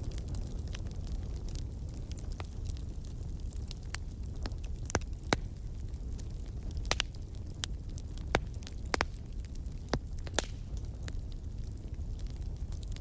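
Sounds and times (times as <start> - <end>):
burning wood popping and crackling: 0.0 - 13.0
fire flames rumbling: 0.0 - 13.0.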